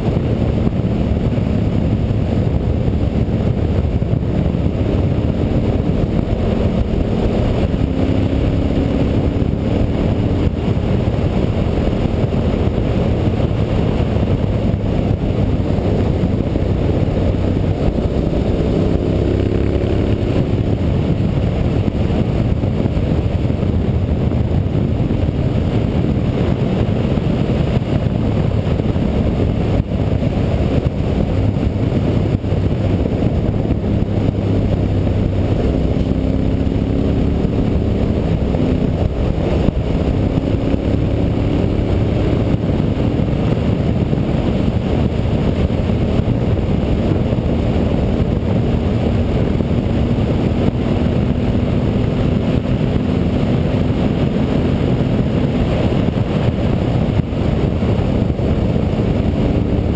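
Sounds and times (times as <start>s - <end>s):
motorcycle engine running: 0.0s - 59.9s
rushing wind: 0.0s - 59.9s.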